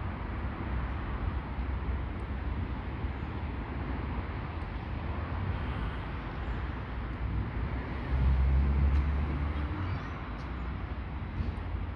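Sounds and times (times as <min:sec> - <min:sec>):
low rumble of street traffic: 0:00.0 - 0:11.9
vehicle engine hum: 0:00.0 - 0:11.9.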